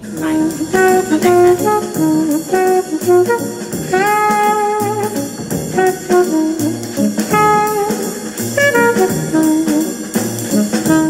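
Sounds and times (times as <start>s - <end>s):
instrumental jazz music: 0.0s - 11.0s.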